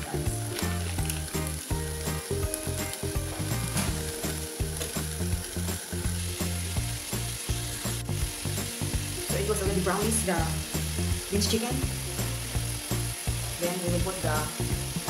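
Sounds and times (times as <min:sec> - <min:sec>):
chicken sizzling in a wok: 0:00.0 - 0:15.0.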